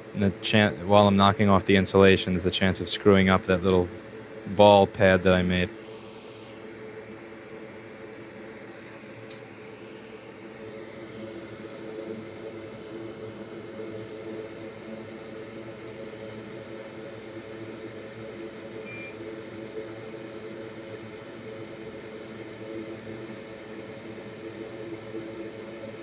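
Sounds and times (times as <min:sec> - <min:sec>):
fan motor whirring: 0:00.0 - 0:26.0.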